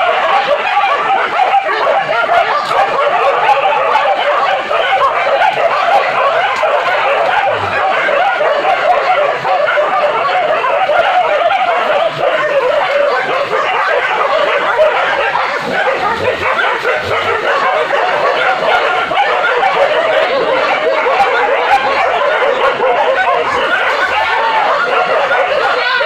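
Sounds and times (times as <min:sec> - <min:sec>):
dogs barking and yelping: 0:00.0 - 0:26.0.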